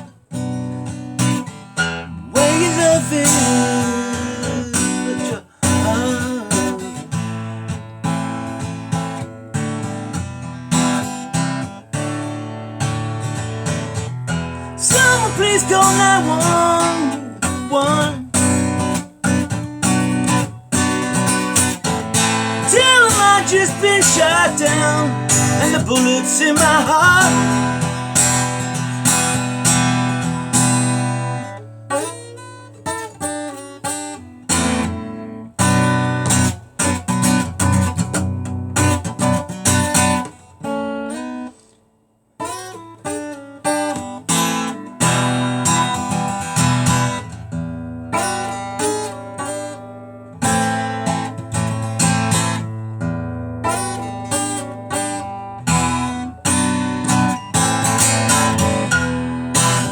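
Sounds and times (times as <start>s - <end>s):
acoustic guitar chords: 0.0s - 59.9s.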